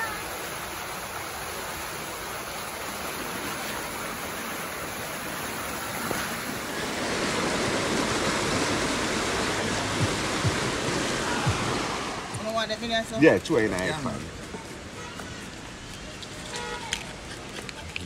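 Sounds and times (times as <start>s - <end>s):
river water rushing over rapids: 0.0s - 15.8s.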